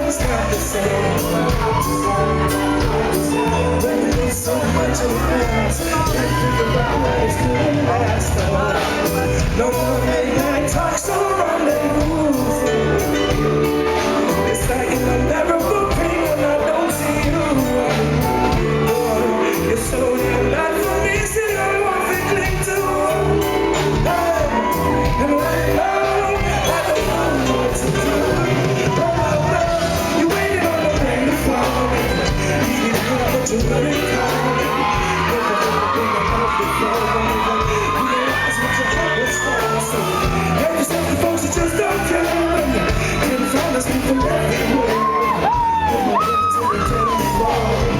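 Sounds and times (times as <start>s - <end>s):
crowd shouts: 0.0s - 15.5s, 20.6s - 31.9s, 32.9s - 47.9s
lead vocalist singing: 0.0s - 47.9s
live reggae band: 0.0s - 47.9s.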